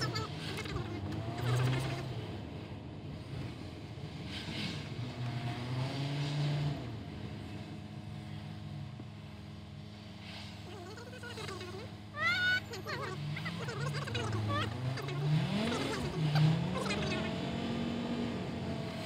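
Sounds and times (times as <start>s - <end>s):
car engine and tyres hum: 0.0s - 19.0s.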